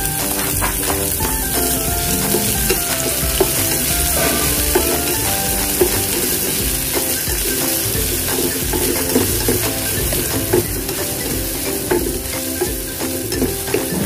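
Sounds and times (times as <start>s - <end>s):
onions sizzling in oil: 0.0s - 14.0s.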